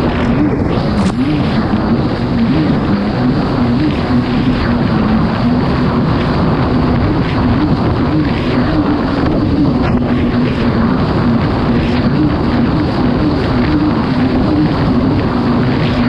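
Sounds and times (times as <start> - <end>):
jet ski engine running hard: 0.0 - 16.0
water rushing: 0.0 - 16.0
wind buffeting microphone: 0.0 - 16.0.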